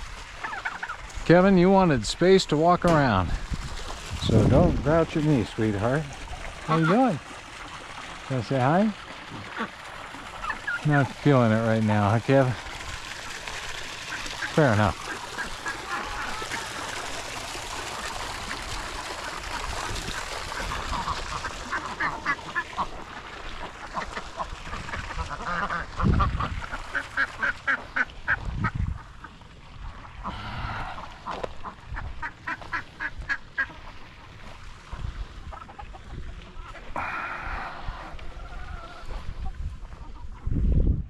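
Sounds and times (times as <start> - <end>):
ducks quacking: 0.3 - 1.8, 4.9 - 34.2, 35.4 - 40.5.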